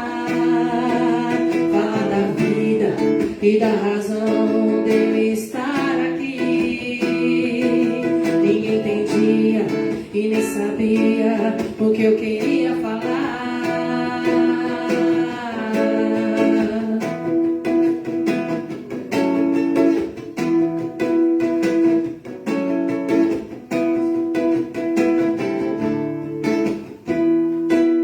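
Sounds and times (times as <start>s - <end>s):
strummed acoustic string chords: 0.0s - 28.0s.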